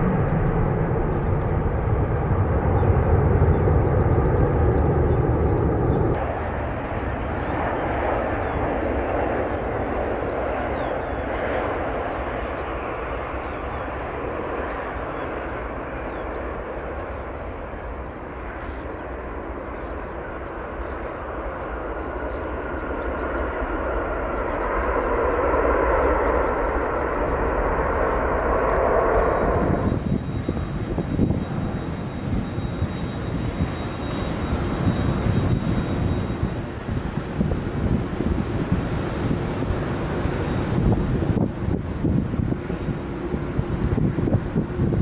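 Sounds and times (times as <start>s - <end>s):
wind rumble on microphone: 0.0s - 19.0s, 24.2s - 45.0s
jet engines roaring: 0.0s - 45.0s.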